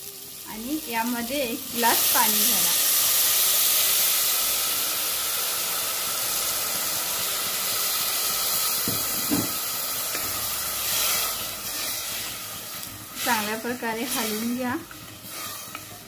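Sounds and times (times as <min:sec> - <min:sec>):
water hissing in hot oil: 0:00.0 - 0:16.0.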